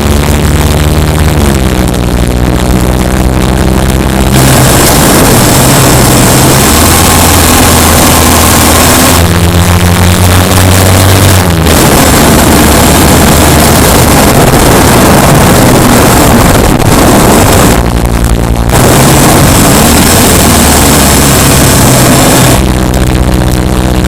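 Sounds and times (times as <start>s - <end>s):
car engine running: 0.0s - 24.0s
rough noisy rumble: 0.0s - 24.0s.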